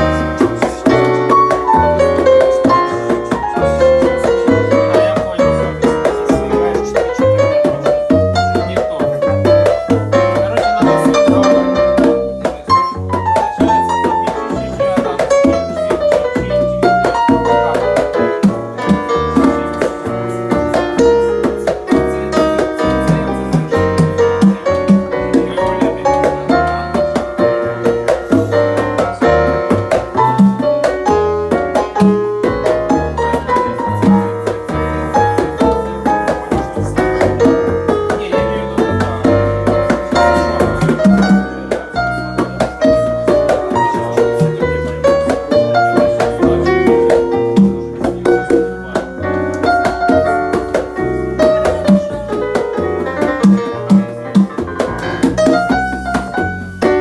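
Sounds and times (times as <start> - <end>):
double bass notes: 0.0 - 57.0
guitar: 0.0 - 57.0
keyboard piano melody: 0.0 - 57.0.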